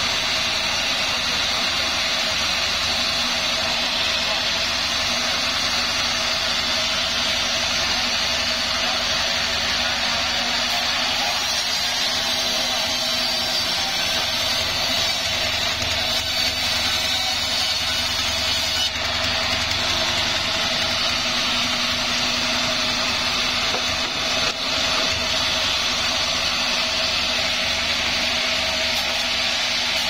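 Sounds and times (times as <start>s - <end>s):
sawmill saw machinery running: 0.0s - 30.0s.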